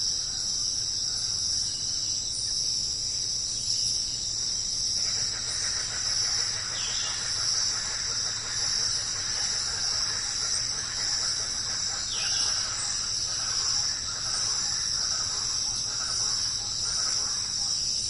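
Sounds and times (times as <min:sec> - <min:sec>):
dense insect chorus buzzing: 0:00.0 - 0:18.0.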